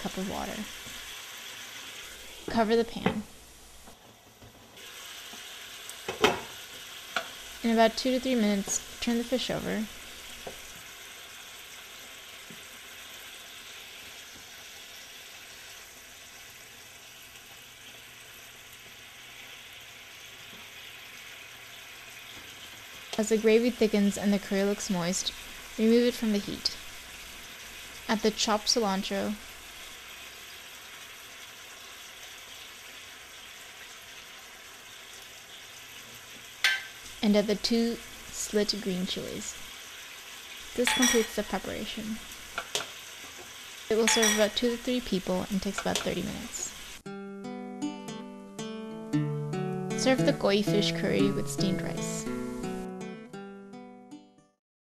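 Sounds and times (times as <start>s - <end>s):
curry sizzling in a pan: 0.0s - 47.1s, 48.0s - 53.3s.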